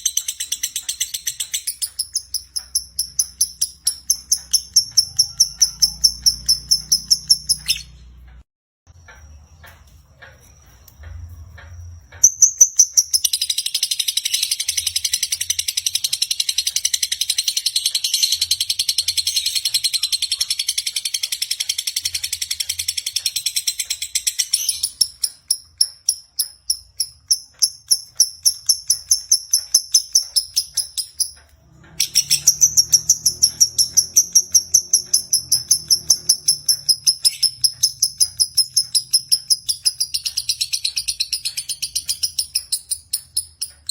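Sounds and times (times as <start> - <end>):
lovebird chirping: 0.0 - 8.3, 12.1 - 43.9.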